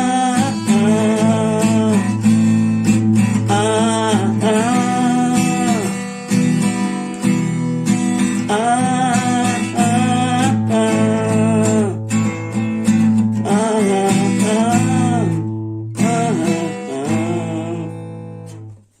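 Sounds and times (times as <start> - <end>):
strummed acoustic guitar chords: 0.0 - 19.0.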